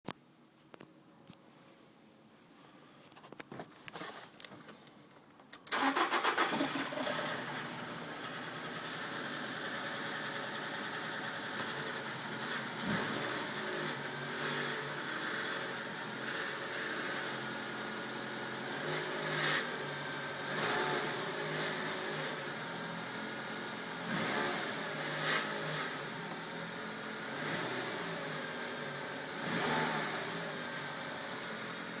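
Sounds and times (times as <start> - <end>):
car engine cranking and starting: 5.4 - 32.0
engine running with rattle: 5.7 - 32.0.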